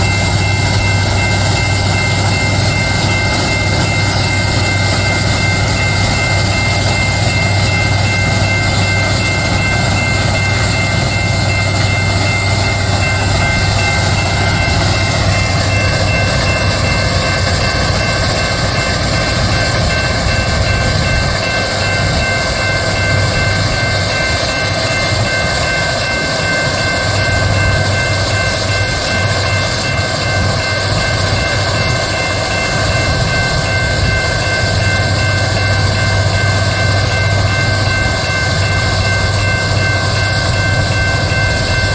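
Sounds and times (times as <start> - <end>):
heavy machinery low drone: 0.0 - 41.9.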